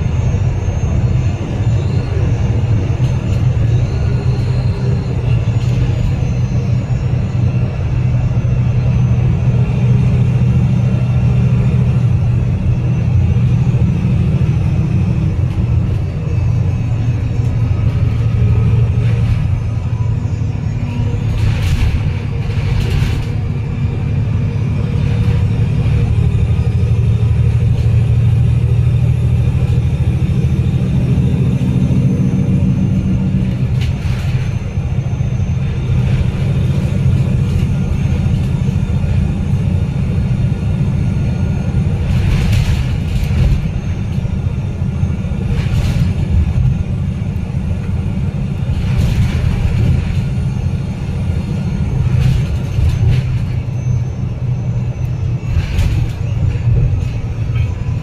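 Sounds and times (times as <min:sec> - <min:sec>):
bus diesel engine rumble: 0:00.0 - 0:58.0
humming tone: 0:00.0 - 0:58.0.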